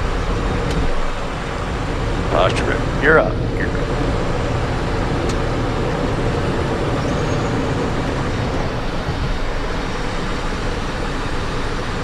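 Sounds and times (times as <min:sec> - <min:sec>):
deep rumble: 0:00.0 - 0:12.0
jet engines and airflow roaring: 0:00.0 - 0:12.0.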